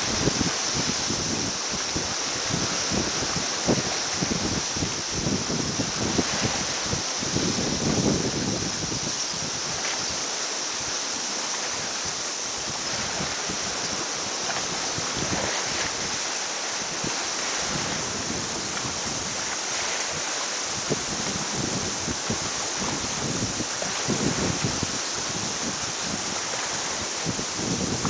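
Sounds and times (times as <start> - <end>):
wind buffeting microphone: 0.0 - 28.0
wind hissing: 0.0 - 28.0.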